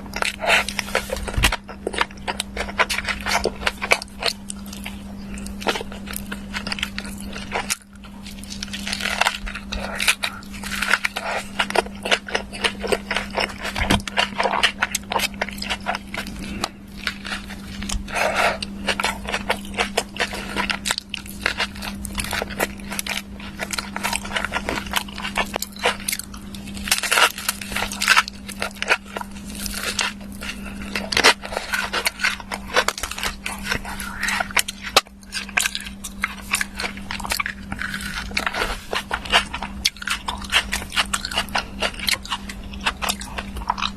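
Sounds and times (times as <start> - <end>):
crunching and chewing: 0.0 - 43.9
steady low hum: 0.0 - 43.9.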